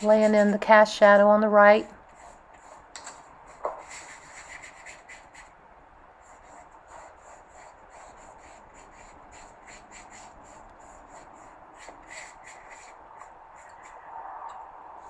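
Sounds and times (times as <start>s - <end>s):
paintbrush strokes on paper: 0.0s - 5.6s, 6.2s - 15.0s.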